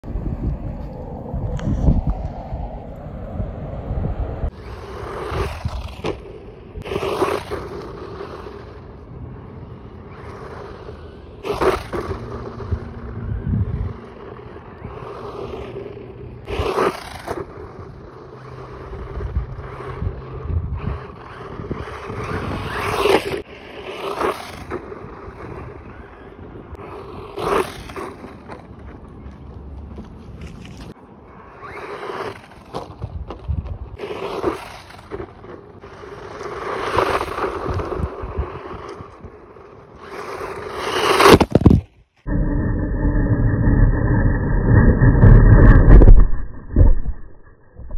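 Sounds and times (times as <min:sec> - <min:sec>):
rc truck tyres scraping dirt: 0:03.2 - 0:47.9.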